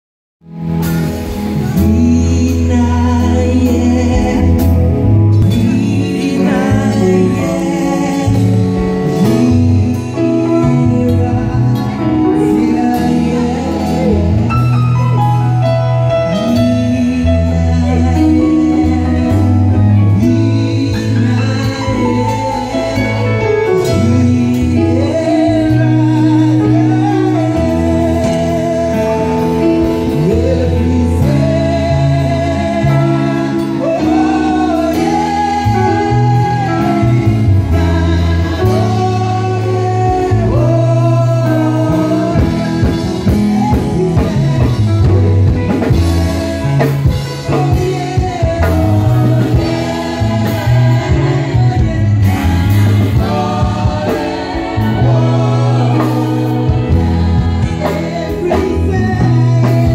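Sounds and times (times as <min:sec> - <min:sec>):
electric guitar: 0:00.4 - 0:59.9
held bass notes: 0:00.4 - 0:59.9
keyboard: 0:00.4 - 0:59.9
people singing gospel: 0:00.8 - 0:59.9.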